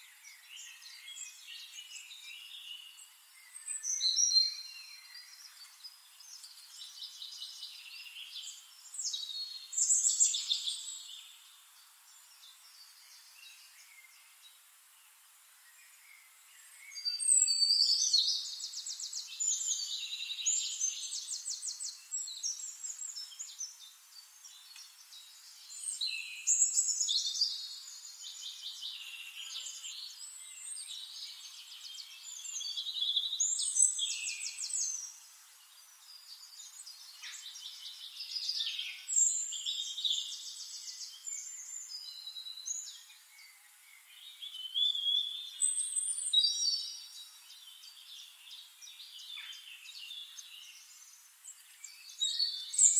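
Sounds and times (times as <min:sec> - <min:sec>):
songbirds singing trills: 0:00.0 - 0:52.9.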